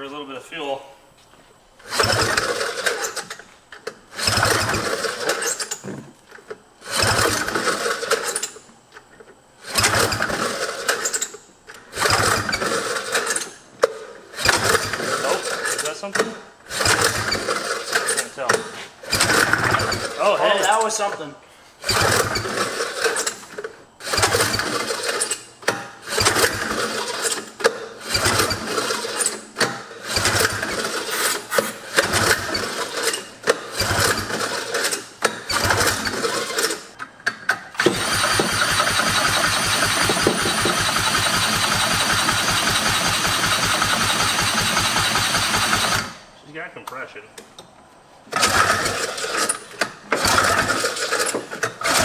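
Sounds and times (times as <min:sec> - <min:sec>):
cordless drill spinning engine: 0:01.8 - 0:06.1, 0:06.8 - 0:08.6, 0:09.6 - 0:13.6, 0:14.4 - 0:16.0, 0:16.7 - 0:18.4, 0:19.0 - 0:20.3, 0:21.8 - 0:37.0, 0:37.7 - 0:46.3, 0:48.4 - 0:52.0
rotary engine cranking: 0:01.8 - 0:08.7, 0:09.6 - 0:46.3, 0:48.3 - 0:52.0.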